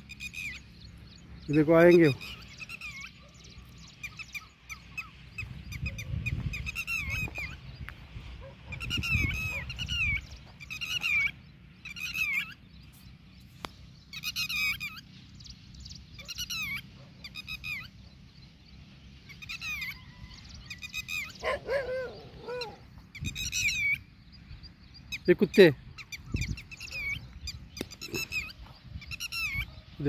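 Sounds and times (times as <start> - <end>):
bird wavering cry: 0.0 - 13.1, 14.0 - 30.0
birds shrill alarm calls: 0.0 - 30.0.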